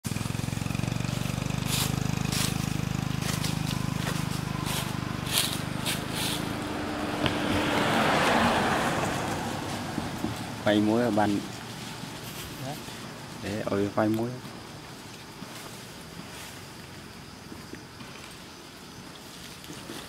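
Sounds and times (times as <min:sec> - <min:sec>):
vehicle engine pulsing hum: 0:00.0 - 0:20.0.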